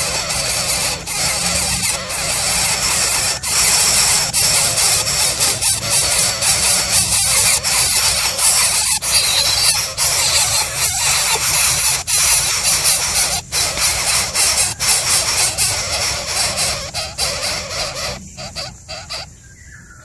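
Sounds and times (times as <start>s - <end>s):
baby bird hissing squeals: 0.0s - 20.0s.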